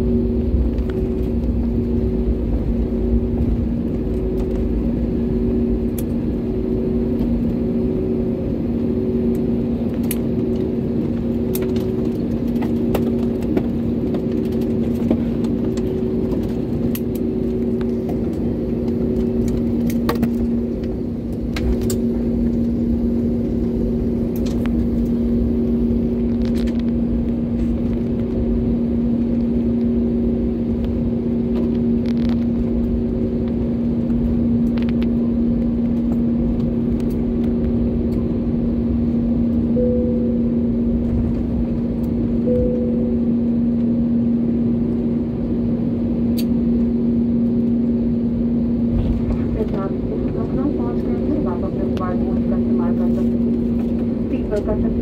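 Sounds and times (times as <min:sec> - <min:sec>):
airliner cabin drone and rumble: 0:00.0 - 0:55.0
pulsing hum: 0:00.0 - 0:55.0.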